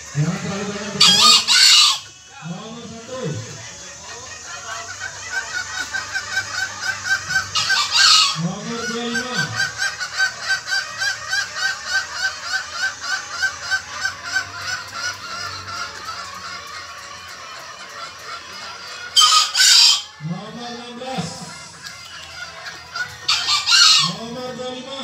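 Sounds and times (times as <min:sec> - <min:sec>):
fowl calling rapidly: 0:00.0 - 0:25.0
harsh fowl call: 0:00.0 - 0:25.0.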